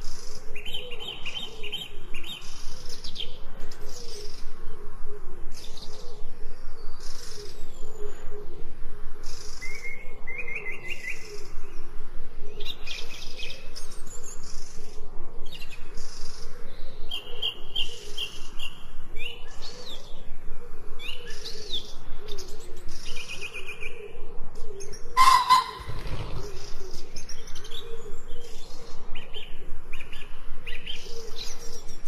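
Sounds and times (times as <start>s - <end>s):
songbirds chirping and singing: 0.0s - 32.0s.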